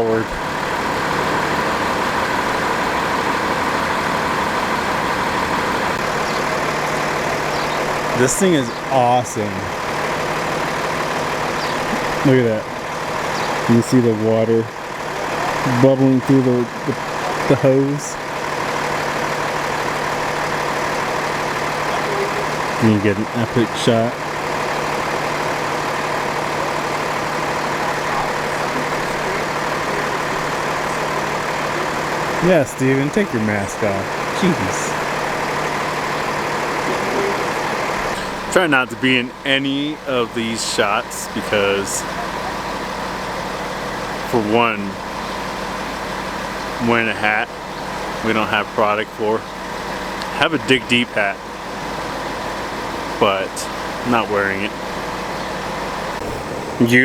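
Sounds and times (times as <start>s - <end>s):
constant rushing noise: 0.0s - 57.0s
truck engine idling: 0.0s - 57.0s.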